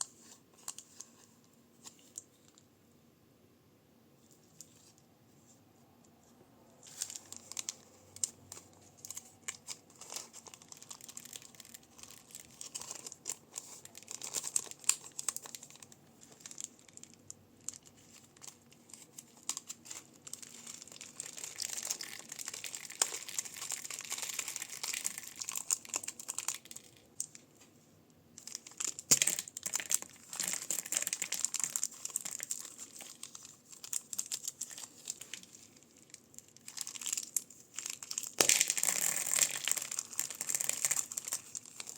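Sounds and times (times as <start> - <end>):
crunchy slime crackling: 6.8 - 27.6, 28.4 - 41.9
plastic bags crinkling: 6.8 - 27.6, 28.4 - 41.9.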